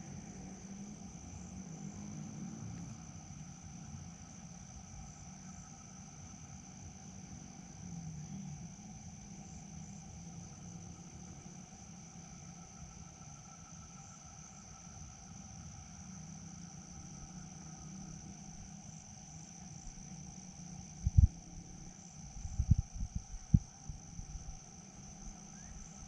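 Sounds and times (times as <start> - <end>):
crickets chirring: 0.0 - 26.0
low background hum: 0.0 - 26.0.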